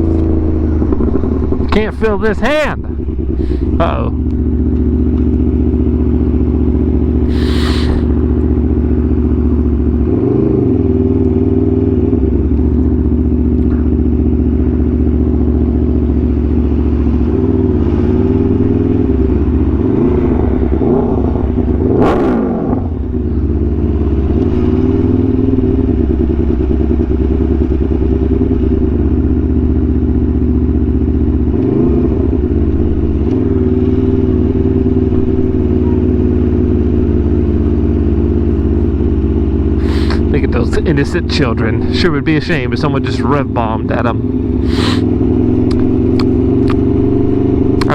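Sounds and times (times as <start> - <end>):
motorcycle engine while riding: 0.0 - 47.9.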